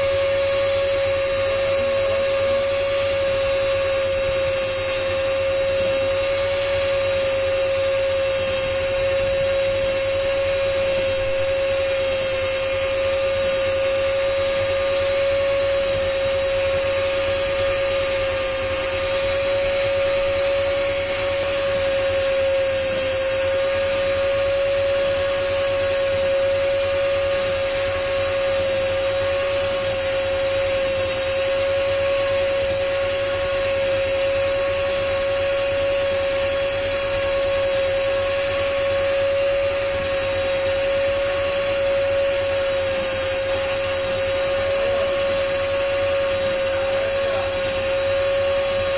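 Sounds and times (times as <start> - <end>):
rotary cutting tool whining: 0.0 - 48.9.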